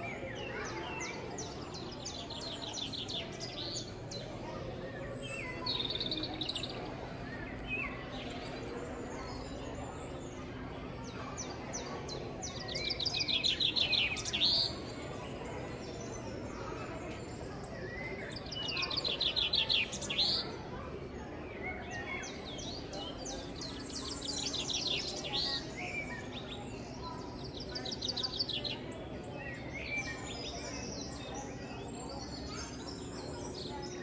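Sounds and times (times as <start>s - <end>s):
recorded birds chirping: 0.0s - 34.0s.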